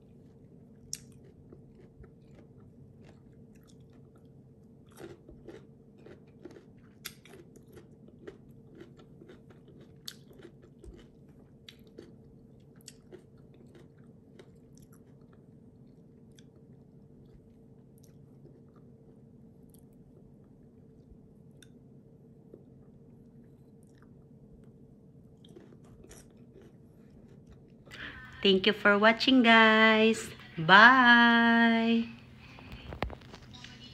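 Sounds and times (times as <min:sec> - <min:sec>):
crunching and chewing mango: 0:00.0 - 0:28.4
faint hum: 0:00.0 - 0:33.9.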